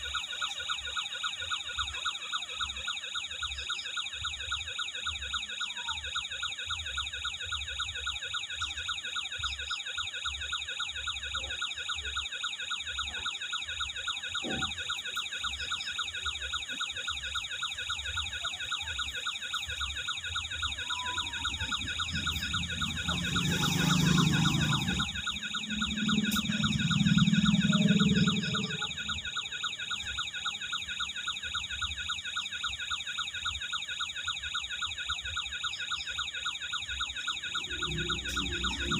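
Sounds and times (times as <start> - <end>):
toy siren warble: 0.0 - 38.9.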